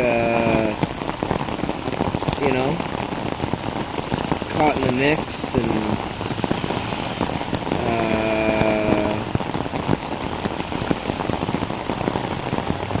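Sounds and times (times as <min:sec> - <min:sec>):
rain drops tapping: 0:00.0 - 0:13.0.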